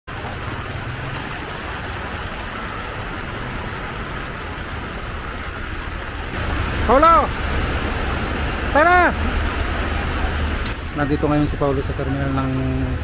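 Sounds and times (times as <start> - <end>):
heavy rain on wet street: 0.1 - 13.0
vehicle engines idling: 0.1 - 13.0.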